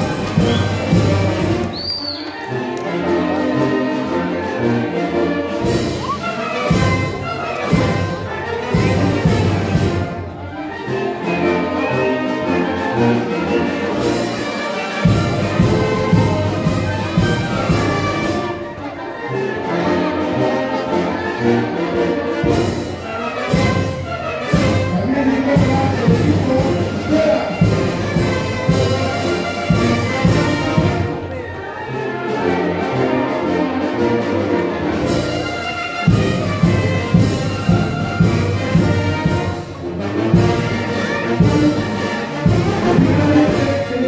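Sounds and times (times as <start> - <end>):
brass band music: 0.0 - 44.0.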